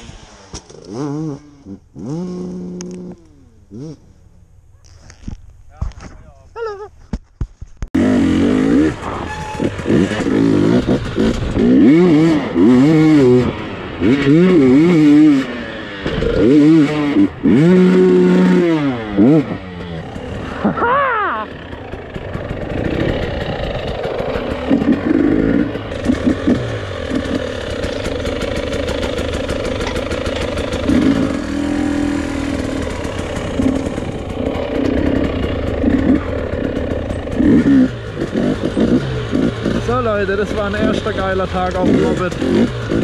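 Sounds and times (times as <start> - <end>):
motorcycle engine revving: 0.0 - 5.3, 8.0 - 43.0.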